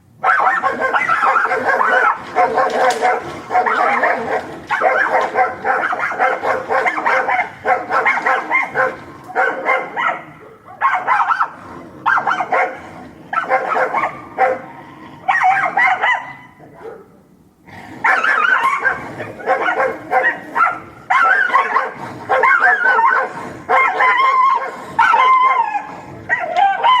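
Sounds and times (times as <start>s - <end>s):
dogs barking and yelping: 0.2s - 17.2s, 17.8s - 27.0s.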